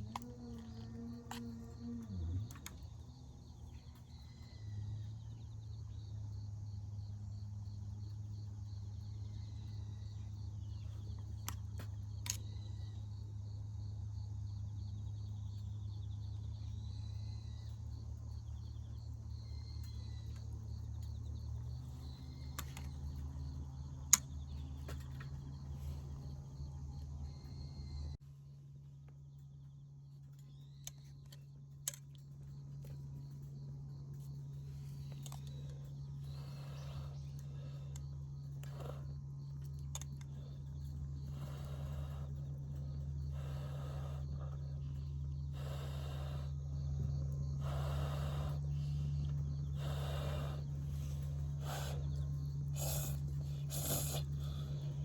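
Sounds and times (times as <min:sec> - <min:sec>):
crickets chirping: 0:00.0 - 0:55.0
steady low hum: 0:00.0 - 0:55.0.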